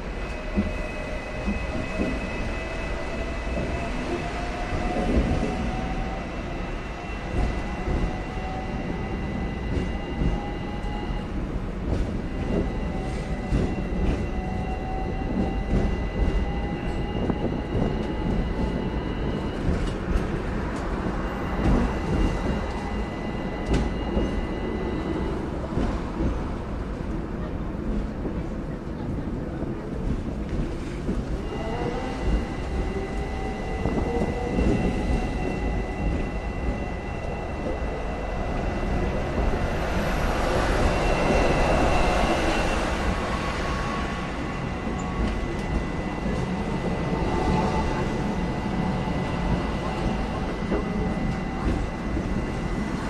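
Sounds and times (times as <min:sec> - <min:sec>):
tram rumbling: 0:00.0 - 0:53.0.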